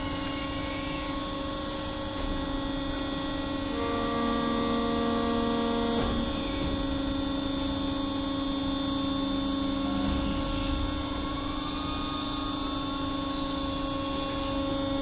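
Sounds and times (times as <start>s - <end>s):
conveyor machinery hum and whine: 0.0s - 15.0s.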